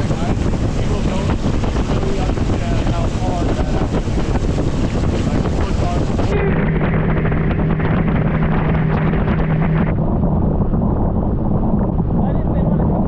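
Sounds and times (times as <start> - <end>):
outboard motor running: 0.0 - 10.5
wind buffeting microphone: 0.0 - 13.0.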